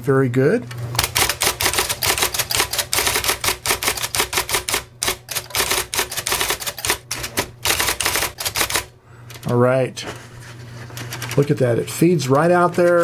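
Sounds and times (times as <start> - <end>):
typewriter motor hum: 0.7 - 9.6, 10.7 - 13.0
electric typewriter typing: 0.9 - 9.6, 10.9 - 13.0.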